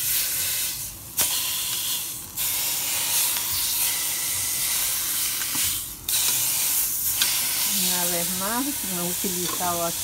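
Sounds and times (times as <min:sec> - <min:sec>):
meat sizzling in a pot: 0:00.0 - 0:10.0.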